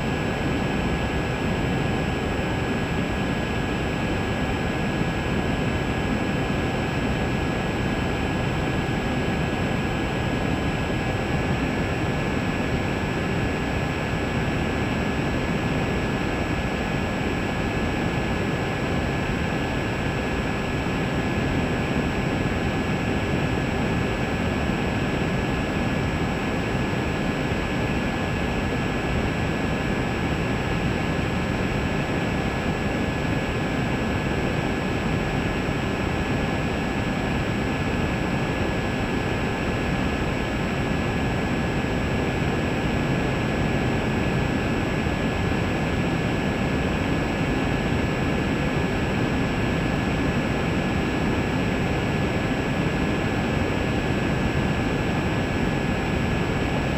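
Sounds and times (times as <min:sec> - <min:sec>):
wind and propeller rush: 0:00.0 - 0:56.9.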